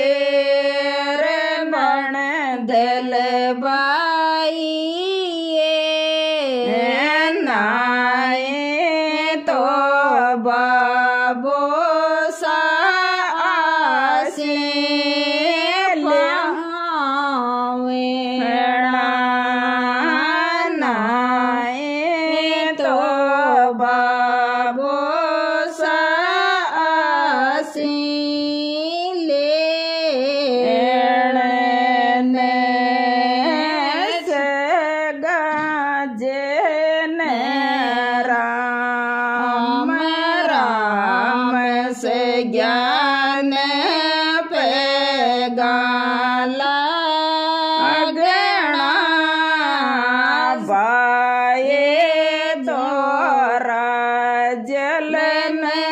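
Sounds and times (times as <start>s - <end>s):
woman singing folk song: 0.0s - 55.9s.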